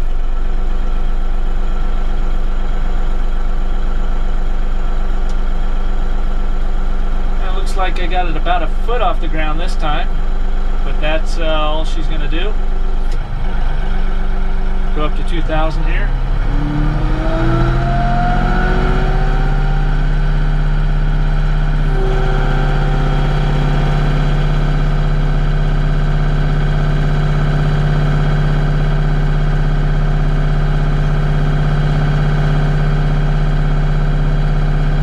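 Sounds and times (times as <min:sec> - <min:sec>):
diesel tractor engine revving: 0:00.0 - 0:35.0.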